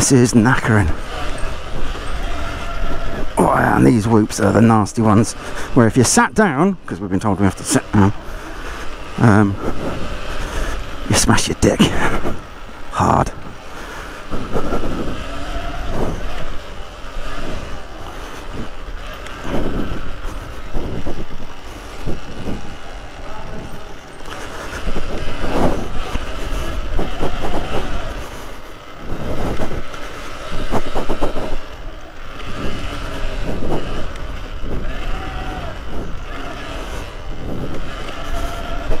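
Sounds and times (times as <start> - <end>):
bike knocking and rattling: 0.0 - 39.0.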